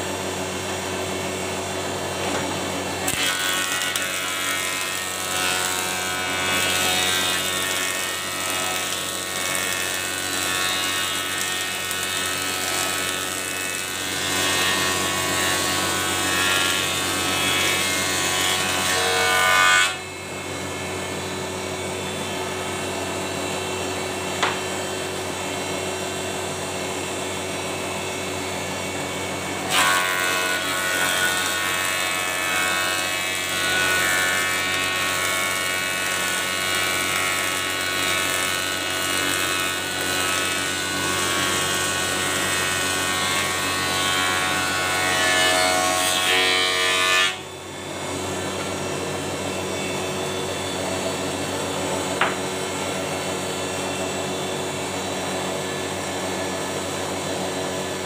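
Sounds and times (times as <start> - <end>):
planer cutting a board: 0.0 - 58.0
thickness planer running: 0.0 - 58.0.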